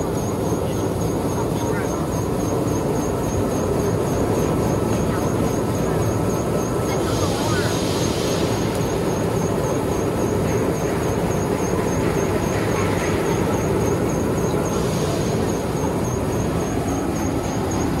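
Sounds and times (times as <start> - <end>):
washing line machinery running: 0.0 - 18.0.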